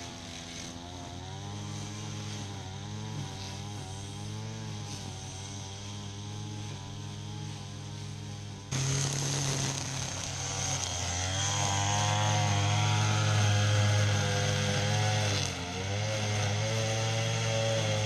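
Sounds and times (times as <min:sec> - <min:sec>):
string trimmer engine cutting grass: 0:00.0 - 0:18.0.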